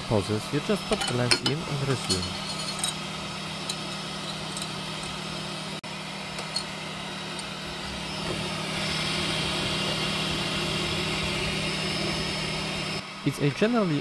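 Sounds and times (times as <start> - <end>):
printer fans and motors humming: 0.0 - 14.0.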